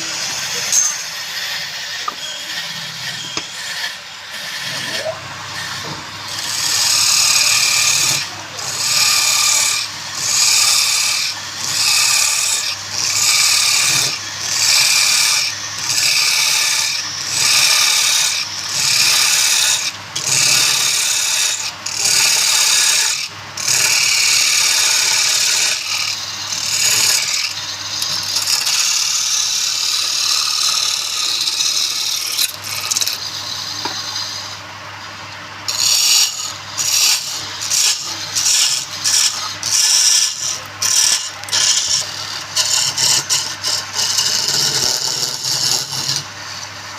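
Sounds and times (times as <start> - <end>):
lathe motor hum: 0.0 - 46.9
tool scraping spinning wood: 0.0 - 46.9.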